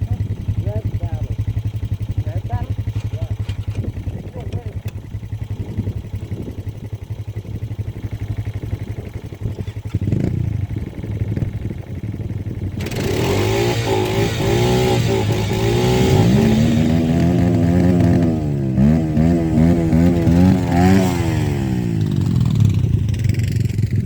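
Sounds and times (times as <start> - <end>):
small engine puttering and revving: 0.0 - 24.0.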